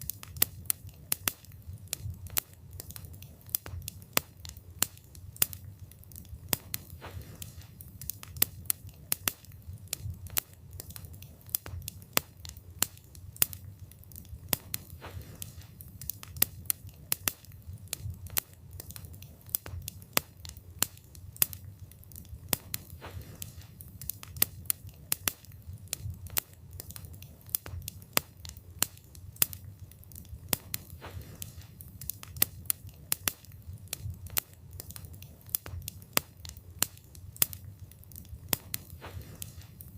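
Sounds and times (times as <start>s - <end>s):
burning wood popping and crackling: 0.0s - 39.9s
low rumble of flames: 0.0s - 39.9s.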